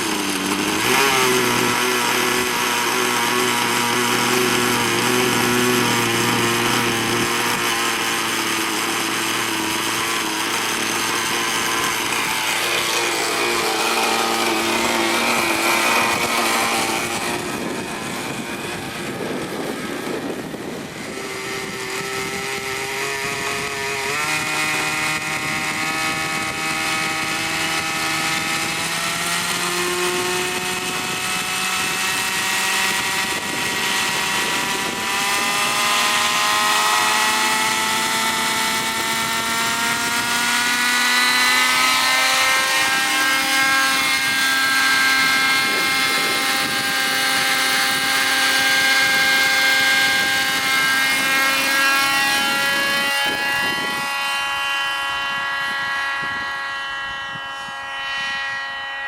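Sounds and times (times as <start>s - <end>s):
model helicopter engine high revs: 0.0s - 59.0s.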